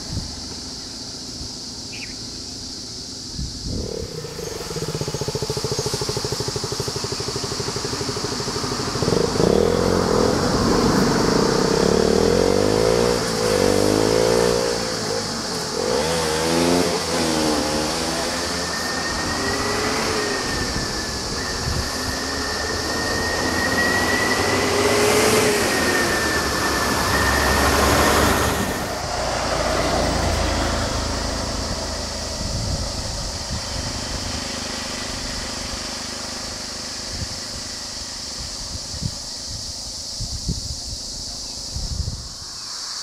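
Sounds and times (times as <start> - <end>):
bus engine rumble: 0.0 - 42.8
high insect drone: 0.0 - 43.0
high-pitched squeal: 3.4 - 40.2.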